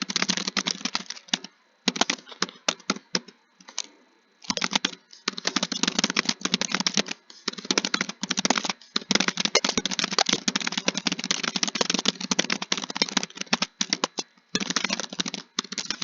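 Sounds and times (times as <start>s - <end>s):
rapid typing on a keyboard: 0.0s - 16.0s.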